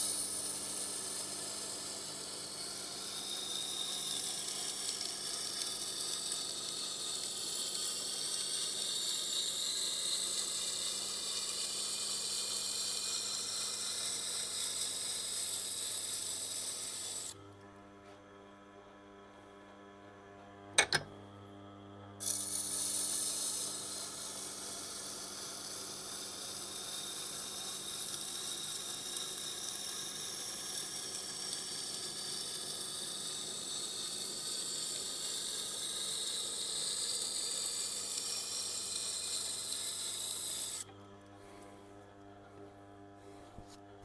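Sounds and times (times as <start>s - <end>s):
blade grinding on sharpening wheel: 0.0s - 17.4s, 22.2s - 40.9s.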